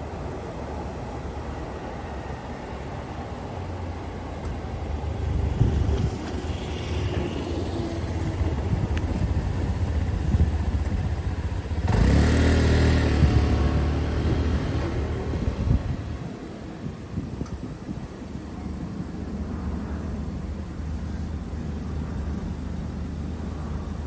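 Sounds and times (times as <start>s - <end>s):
passing vehicles rumbling: 0.0s - 24.0s.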